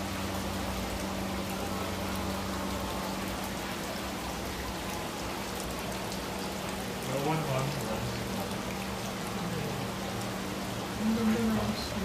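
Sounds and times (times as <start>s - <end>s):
fountain trickling and splashing: 0.0s - 12.0s
low steady hum: 0.0s - 12.0s.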